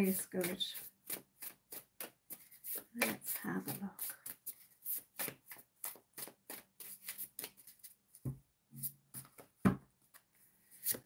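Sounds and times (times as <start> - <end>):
cards being shuffled: 0.4 - 8.2, 9.2 - 11.0.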